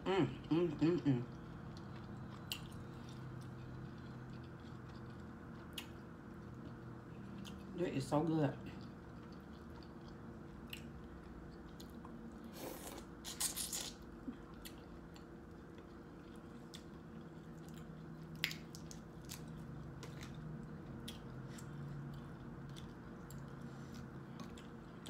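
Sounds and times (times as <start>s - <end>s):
steady low hum: 0.0s - 25.0s
chewing and wet mouth sounds: 1.1s - 25.0s.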